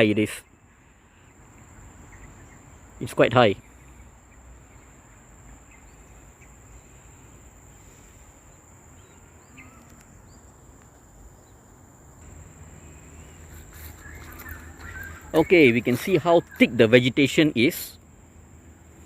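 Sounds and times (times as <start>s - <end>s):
faint bird chirps: 0.0s - 10.8s, 11.4s - 17.8s
insects droning: 0.0s - 19.0s.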